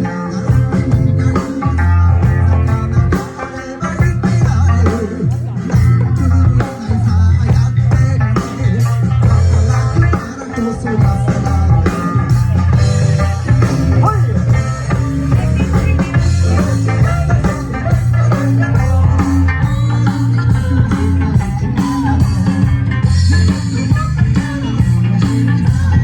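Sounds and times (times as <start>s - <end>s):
drums steady beat: 0.0s - 26.0s
guitar: 0.0s - 26.0s
heavy bass line: 0.0s - 26.0s.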